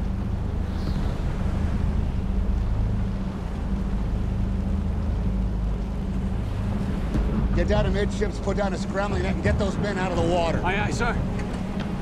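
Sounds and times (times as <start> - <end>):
sea wash: 0.0 - 12.0
ship engines rumbling: 0.0 - 12.0.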